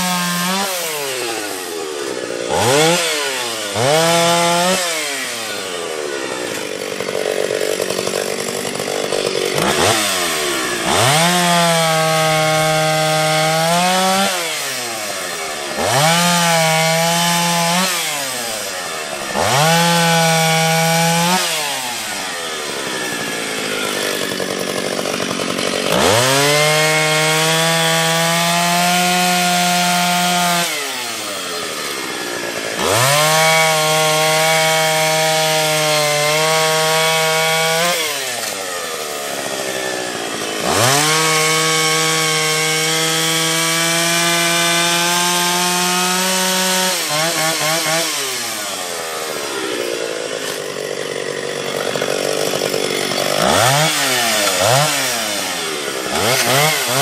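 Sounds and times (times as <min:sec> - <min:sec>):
chainsaw revving cutting logs: 0:00.0 - 0:57.0.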